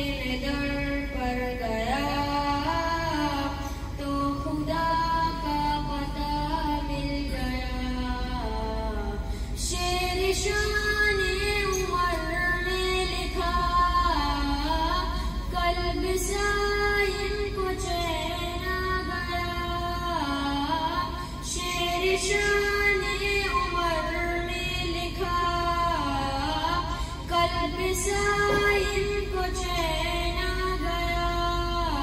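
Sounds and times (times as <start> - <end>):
boy singing unaccompanied: 0.0 - 32.0.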